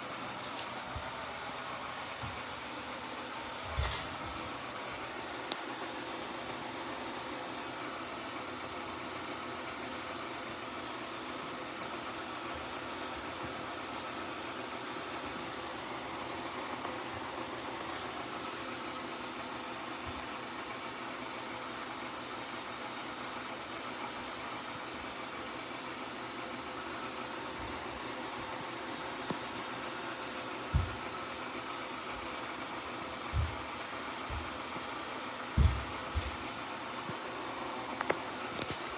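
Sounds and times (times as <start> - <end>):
refrigerator humming: 0.0 - 38.9.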